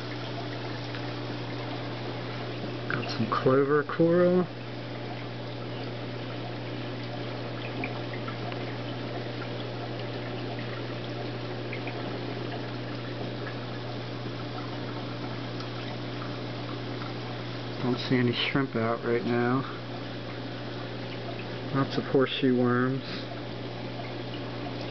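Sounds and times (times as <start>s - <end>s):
trickling splashing water: 0.0s - 24.9s.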